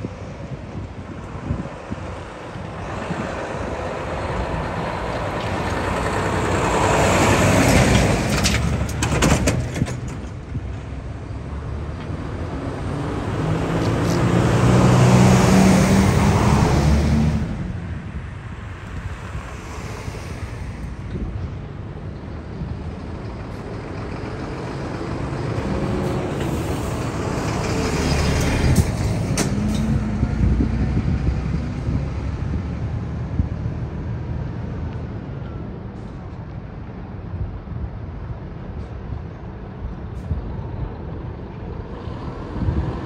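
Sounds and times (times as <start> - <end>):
trucks driving past: 0.0 - 43.0.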